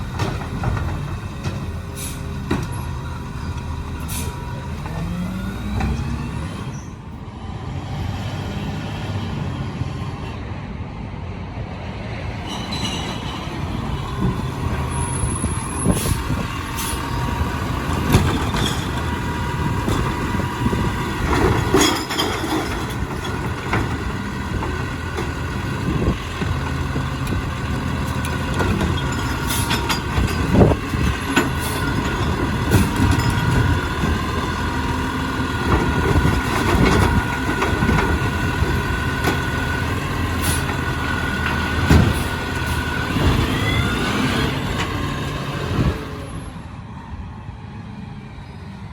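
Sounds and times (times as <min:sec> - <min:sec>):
garbage truck diesel engine: 0:00.0 - 0:48.9.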